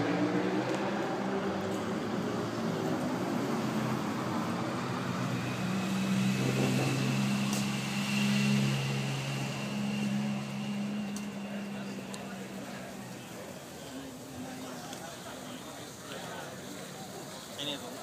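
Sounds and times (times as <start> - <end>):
low engine hum: 0.0 - 16.0
vehicle engine: 0.0 - 18.0.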